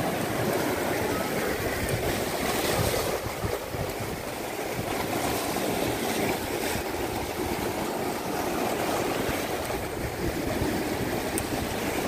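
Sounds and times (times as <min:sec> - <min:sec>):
sea surf breaking over rocks: 0:00.0 - 0:12.0.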